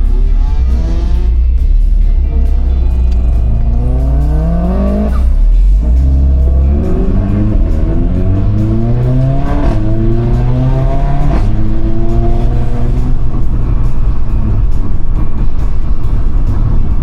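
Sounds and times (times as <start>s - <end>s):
car engine accelerating through gears: 0.0s - 17.0s.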